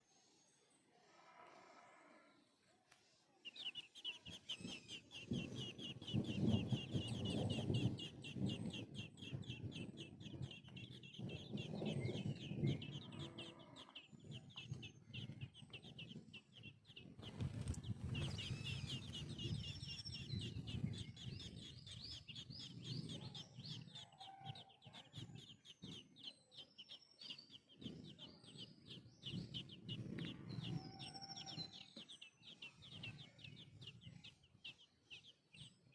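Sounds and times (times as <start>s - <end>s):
nestling birds begging chirps: 0.2s - 35.9s.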